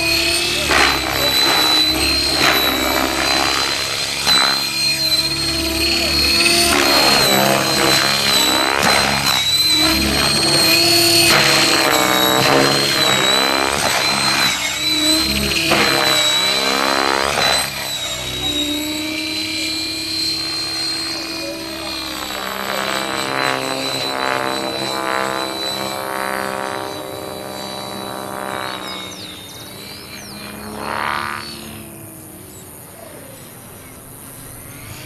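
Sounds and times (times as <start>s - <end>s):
model airplane engine and propeller: 0.0s - 35.0s.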